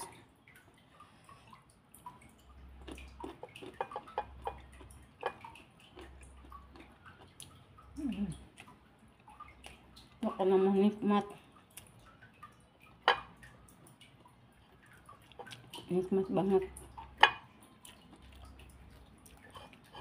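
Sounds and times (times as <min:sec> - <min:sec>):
wet chewing and lip-smacking: 0:00.0 - 0:10.2, 0:11.4 - 0:15.9, 0:16.8 - 0:20.0.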